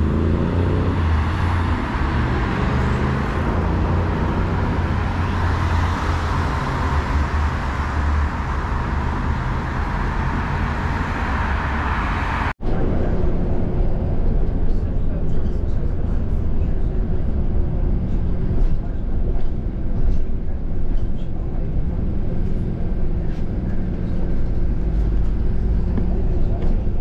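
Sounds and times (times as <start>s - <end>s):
heavy vehicle engine humming: 0.0s - 27.0s
road traffic noise: 0.0s - 27.0s.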